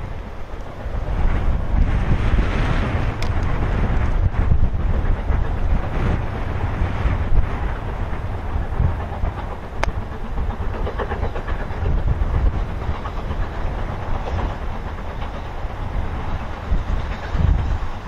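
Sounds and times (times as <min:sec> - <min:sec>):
distant steam locomotive: 0:00.0 - 0:18.0
wind buffeting microphone: 0:00.0 - 0:18.0.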